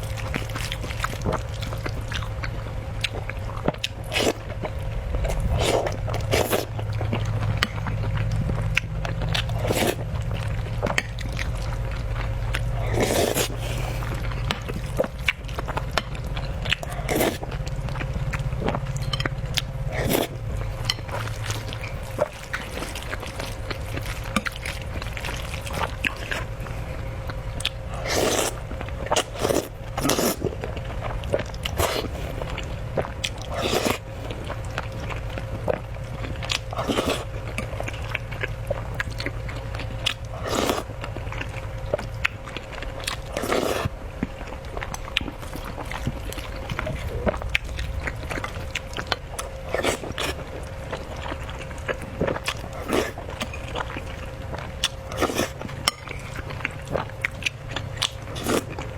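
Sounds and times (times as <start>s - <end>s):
person chewing: 0.0s - 58.9s.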